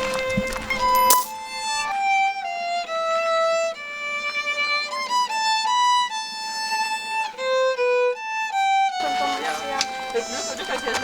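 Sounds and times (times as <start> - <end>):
solo violin melody: 0.0 - 11.0.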